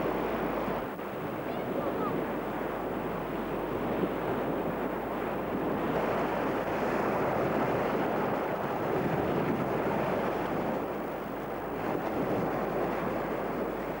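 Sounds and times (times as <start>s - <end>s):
small waves breaking on shore: 0.0s - 14.0s
wind on microphone: 0.0s - 14.0s.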